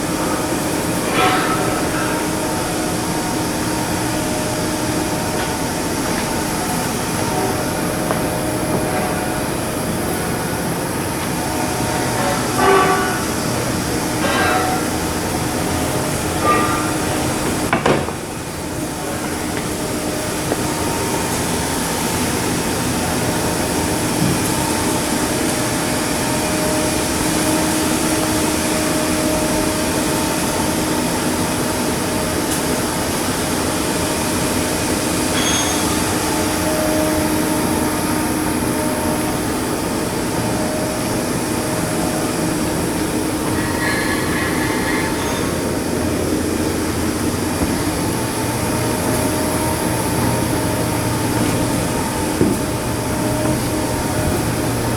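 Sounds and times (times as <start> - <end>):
shipyard machinery humming: 0.0 - 54.9.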